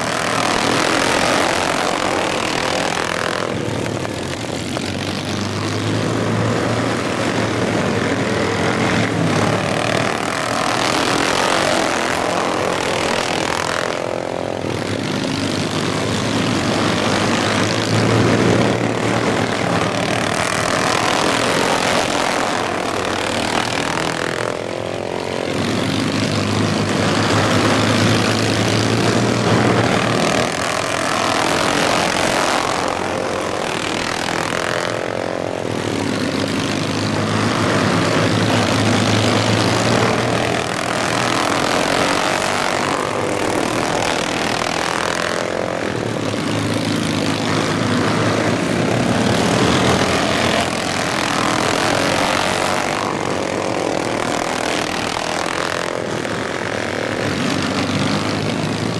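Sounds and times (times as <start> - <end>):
lawn mower engines running hard: 0.0 - 58.9.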